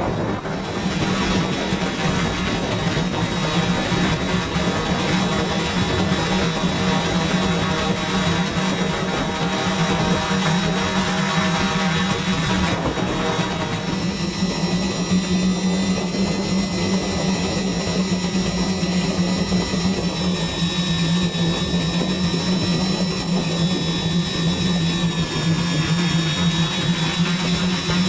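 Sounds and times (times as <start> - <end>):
drone propellers humming: 0.0 - 28.0.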